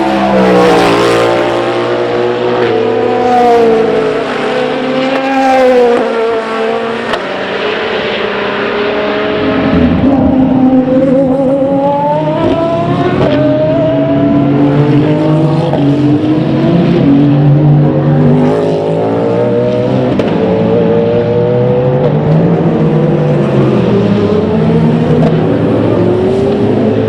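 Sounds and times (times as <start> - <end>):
race car engine accelerating: 0.0 - 27.0.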